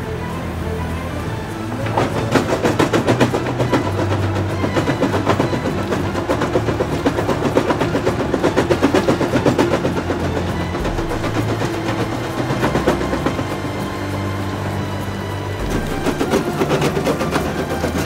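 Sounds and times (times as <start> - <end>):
excavator engine humming: 0.0 - 18.0
crusher bucket crushing rock: 1.8 - 14.7, 15.3 - 18.0.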